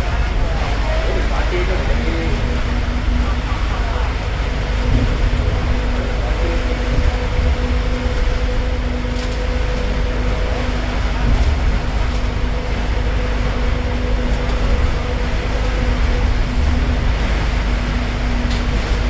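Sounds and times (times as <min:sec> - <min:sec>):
bus engine drone: 0:00.0 - 0:19.0
low hum: 0:00.0 - 0:19.0.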